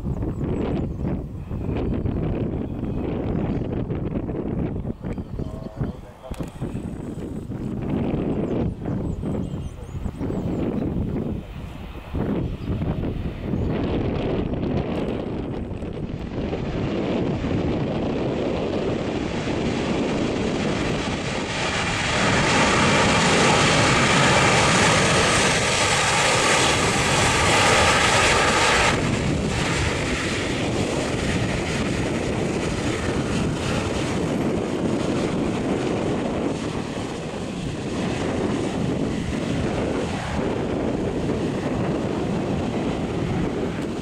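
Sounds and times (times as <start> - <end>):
jet engines in reverse thrust: 0.0 - 44.0.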